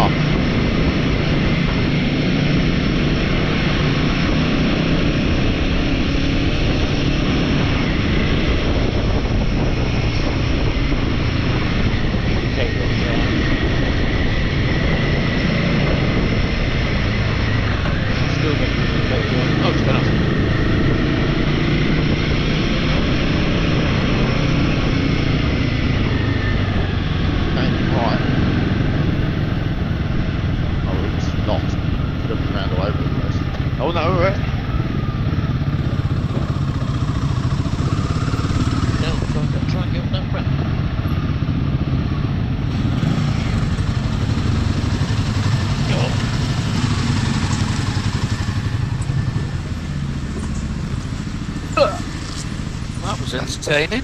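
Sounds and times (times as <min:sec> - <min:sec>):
motorcycle engine running: 0:00.0 - 0:39.7, 0:40.5 - 0:53.1
road noise: 0:00.0 - 0:54.0
wind rushing on microphone: 0:00.0 - 0:54.0.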